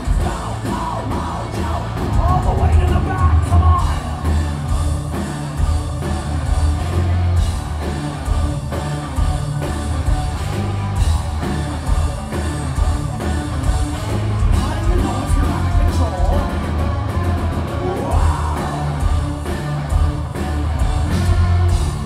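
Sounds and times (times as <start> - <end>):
live metal band playing: 0.0 - 22.0.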